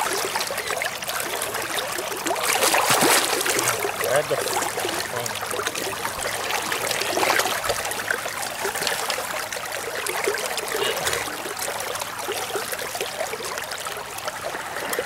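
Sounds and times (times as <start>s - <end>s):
river water running: 0.0s - 15.0s
small water splashes: 0.0s - 15.0s.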